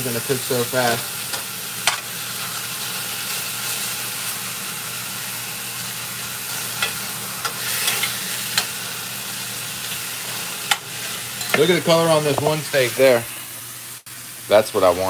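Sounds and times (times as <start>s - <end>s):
steaks sizzling in a skillet: 0.0s - 15.0s.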